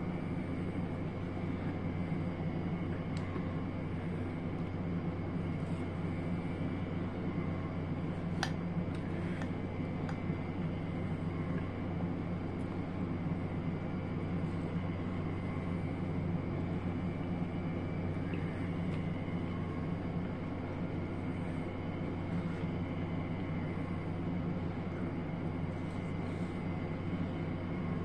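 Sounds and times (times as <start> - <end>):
mechanical hum with high whine: 0.0 - 28.0.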